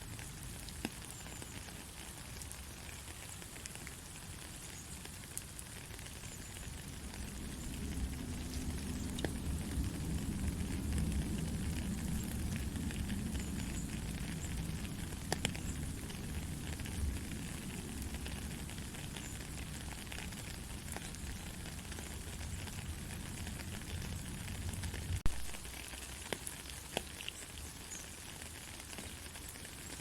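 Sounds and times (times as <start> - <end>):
soft rain pattering: 0.0 - 30.0.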